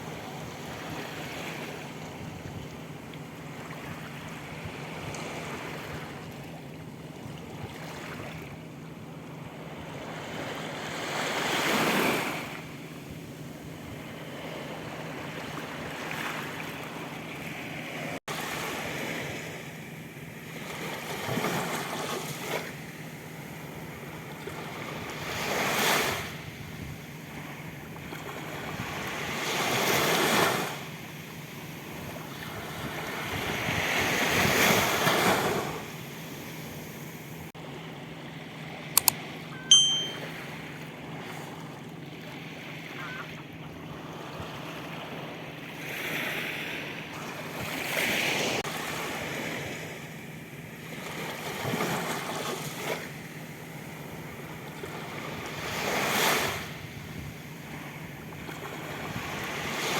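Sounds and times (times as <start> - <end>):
sea waves breaking on beach: 9.5 - 13.1, 13.8 - 19.8, 20.5 - 59.9.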